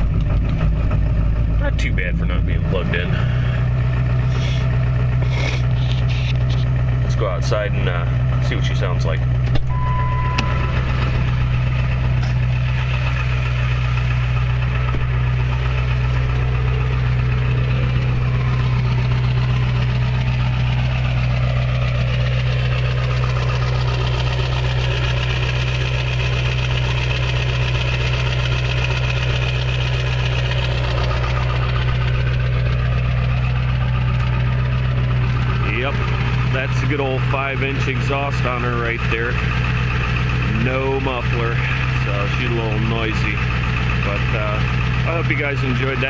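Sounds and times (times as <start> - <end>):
diesel truck engine idling: 0.0 - 46.0.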